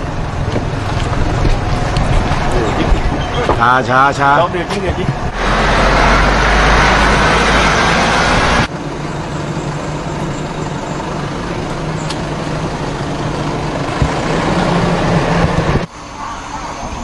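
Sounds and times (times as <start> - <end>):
vehicle engine running: 0.0 - 16.1
rough outdoor noise: 0.0 - 17.0.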